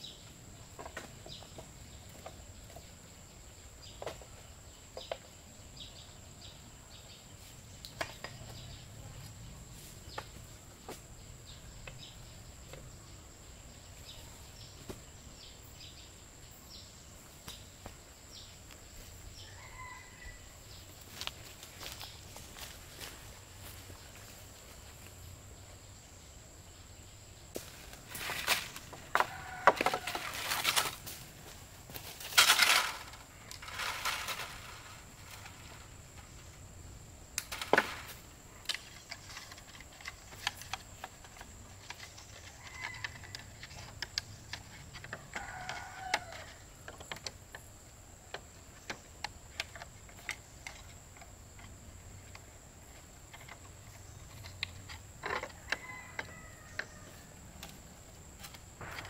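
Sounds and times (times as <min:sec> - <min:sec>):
rustling of wood and leaves: 0:00.0 - 0:25.9, 0:27.5 - 0:59.0.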